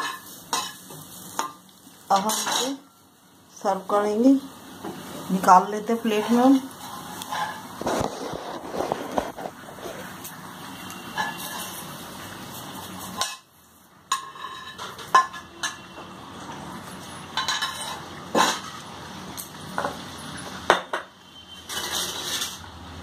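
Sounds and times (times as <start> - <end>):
kitchen utensils clinking: 0.0 - 3.0, 5.3 - 12.0, 12.7 - 13.5, 14.1 - 22.7.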